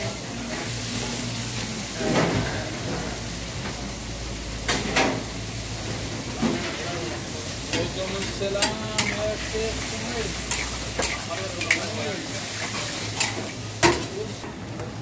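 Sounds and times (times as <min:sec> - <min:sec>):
chicken sizzling in oil: 0:00.0 - 0:14.4.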